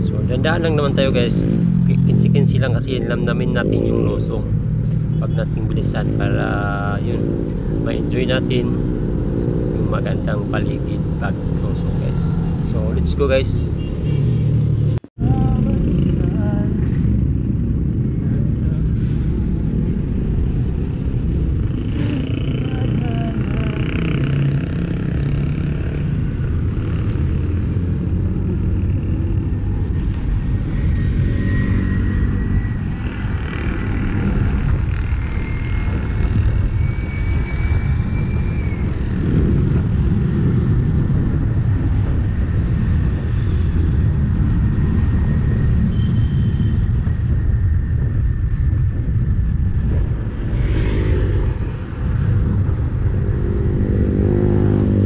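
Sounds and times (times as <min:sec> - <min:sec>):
road traffic: 0:00.0 - 0:55.0
wind rumble on microphone: 0:00.0 - 0:55.0.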